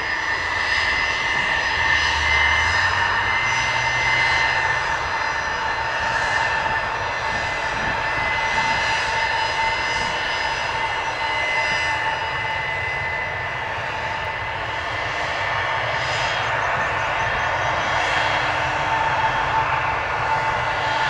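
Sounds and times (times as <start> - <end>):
jet engines whining while taxiing: 0.0 - 21.0.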